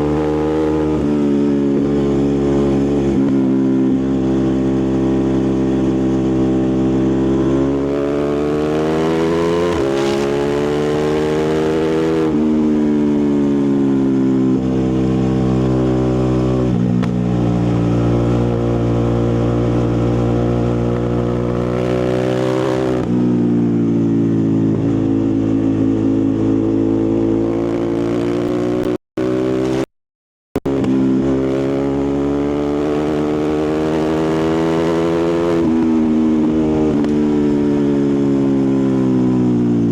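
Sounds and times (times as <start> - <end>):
motorcycle engine accelerating: 0.0 - 29.9, 30.5 - 39.9.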